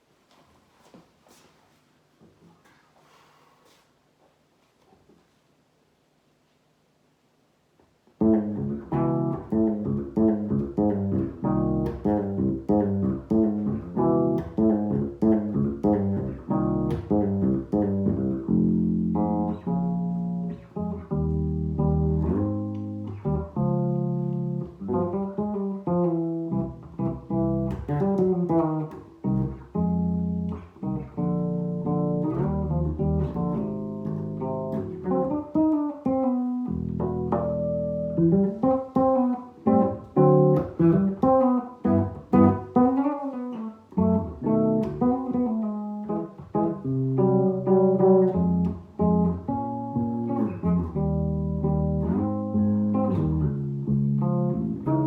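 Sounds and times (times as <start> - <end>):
solo bass playing jazz: 8.2 - 55.0.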